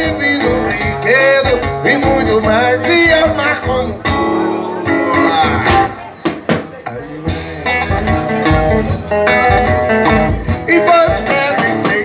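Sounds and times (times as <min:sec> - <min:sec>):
acoustic guitar strumming: 0:00.0 - 0:12.0
hand percussion: 0:00.0 - 0:12.0.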